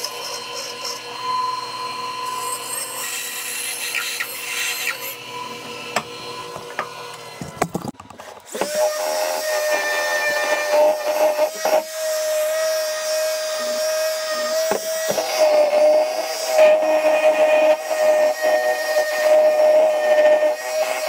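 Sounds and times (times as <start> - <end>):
bandsaw running: 0.0 - 21.0
random orbital sander: 0.1 - 18.4.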